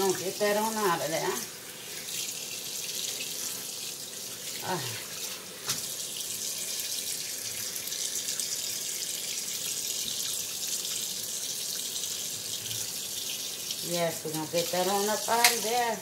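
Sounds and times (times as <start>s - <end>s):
faucet running into sink: 0.0s - 16.0s.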